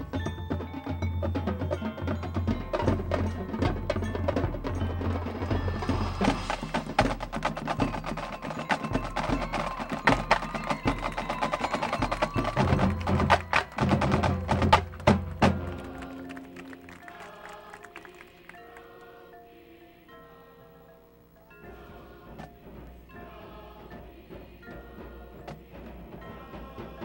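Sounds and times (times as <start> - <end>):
drums and mallet percussion: 0.0 - 19.5, 20.2 - 27.0
chimes: 0.0 - 27.0.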